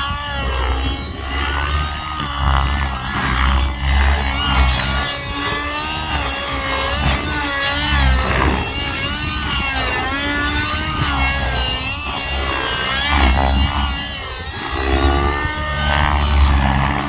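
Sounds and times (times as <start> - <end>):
model helicopter engine at high revs: 0.0 - 17.0.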